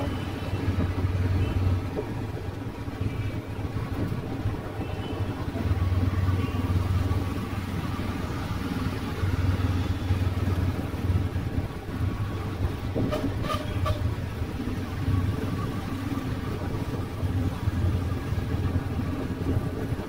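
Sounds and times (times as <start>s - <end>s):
motorbike engines passing: 0.0s - 20.0s.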